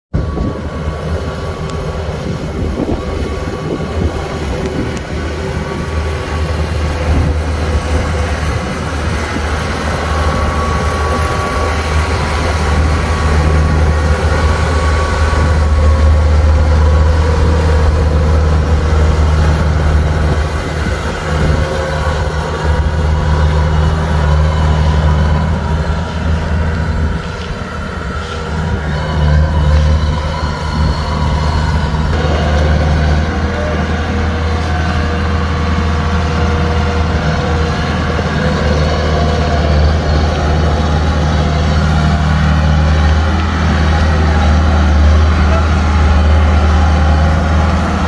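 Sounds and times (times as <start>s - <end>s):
combine harvester engine droning: 0.1s - 48.0s.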